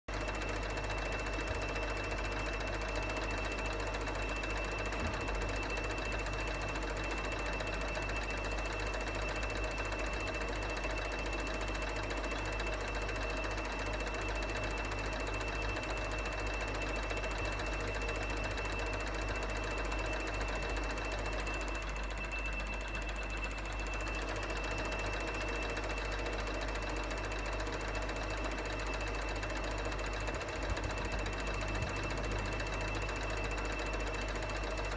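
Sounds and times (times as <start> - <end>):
film projector clatter: 0.1 - 34.9
projector motor hum: 0.1 - 34.9.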